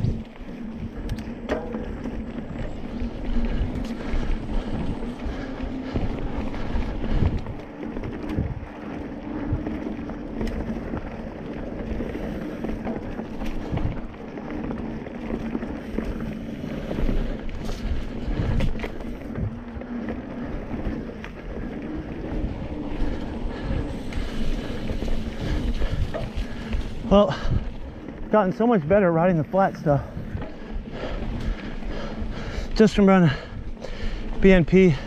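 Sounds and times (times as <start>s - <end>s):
wind on microphone: 0.0s - 28.2s, 30.0s - 32.7s
bike rattling over bumps: 0.0s - 35.0s
bike tyre hum on dirt: 0.0s - 35.0s.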